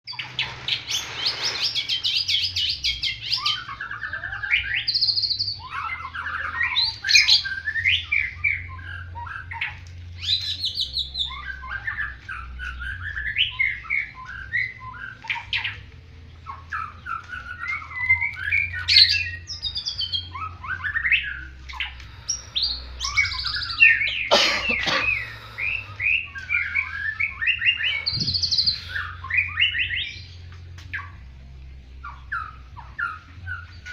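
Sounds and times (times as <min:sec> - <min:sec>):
bird singing whistles and trills: 0:00.1 - 0:33.9
steady low hum: 0:05.4 - 0:33.9.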